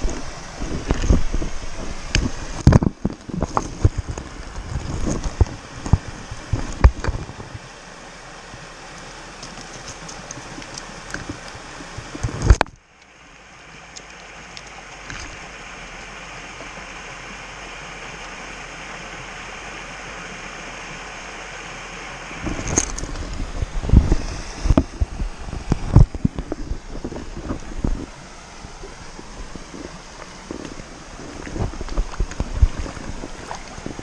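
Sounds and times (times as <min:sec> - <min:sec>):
stream running over stones: 0:00.0 - 0:34.0.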